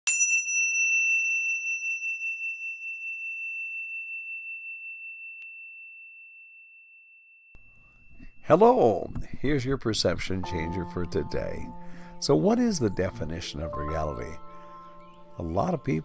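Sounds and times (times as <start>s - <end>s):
meditation bell ringing: 0.1s - 9.0s, 10.5s - 16.0s.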